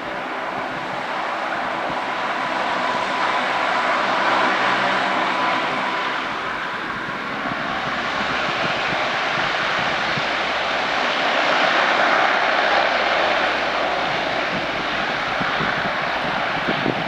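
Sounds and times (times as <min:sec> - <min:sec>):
turboprop engines drone and whine: 0:00.0 - 0:17.0.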